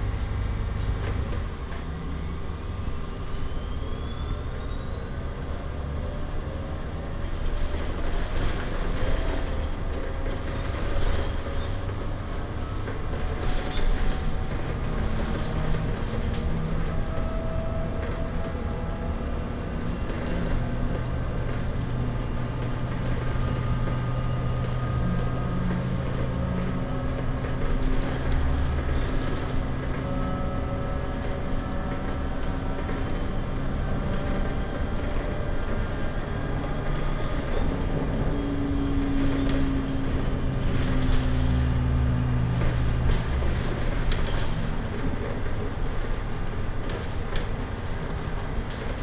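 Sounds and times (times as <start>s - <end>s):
road and tyre rumble: 0.0s - 49.0s.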